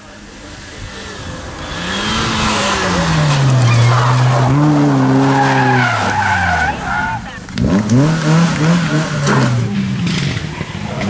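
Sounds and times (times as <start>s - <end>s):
rally car engine passing: 0.0s - 11.0s
tyres sliding on gravel: 0.0s - 11.0s.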